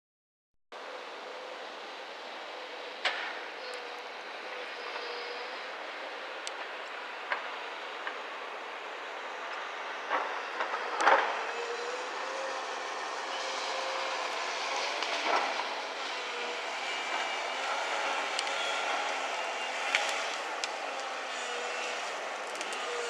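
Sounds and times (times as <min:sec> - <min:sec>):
excavator diesel engine and hydraulics: 0:00.8 - 0:23.0.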